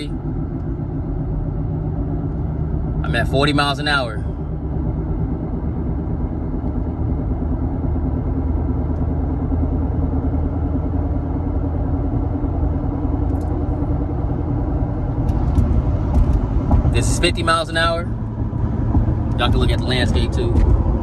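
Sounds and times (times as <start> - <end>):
road and tyre rumble: 0.0 - 21.0
wheel bearing droning hum: 0.0 - 21.0.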